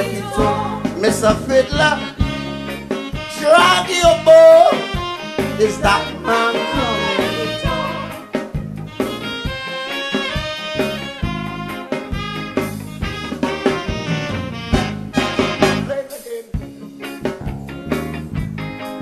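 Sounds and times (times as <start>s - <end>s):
calypso band instrumental: 0.0s - 19.0s.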